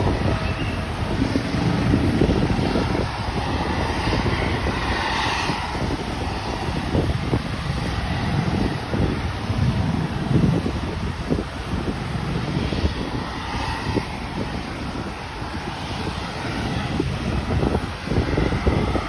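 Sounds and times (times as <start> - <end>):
aircraft noise: 0.0 - 19.0
wind buffeting microphone: 0.0 - 19.0.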